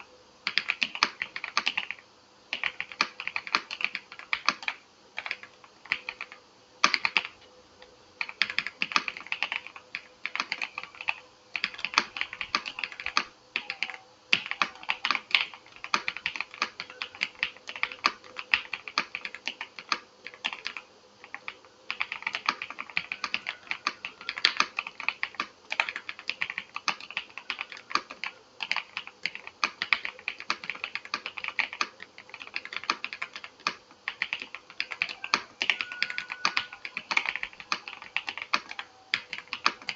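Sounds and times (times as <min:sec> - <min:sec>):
mechanical keyboard typing clicks: 0:00.5 - 0:07.4, 0:08.2 - 0:39.9.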